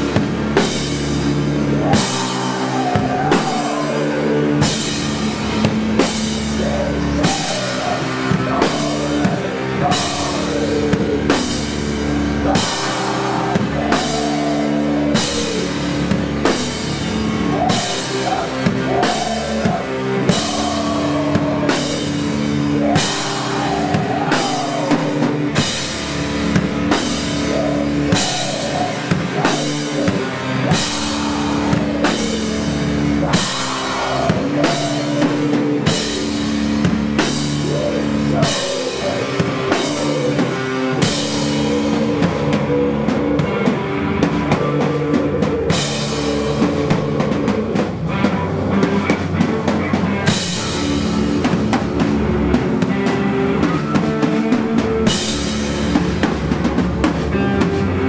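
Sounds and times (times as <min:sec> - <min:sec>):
distorted guitar and bass chords: 0:00.0 - 0:58.0
drums: 0:00.0 - 0:58.0.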